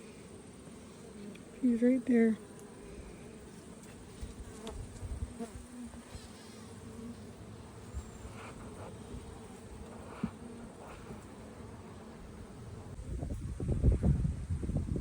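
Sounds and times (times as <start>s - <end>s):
honeybees buzzing: 0.0s - 14.4s.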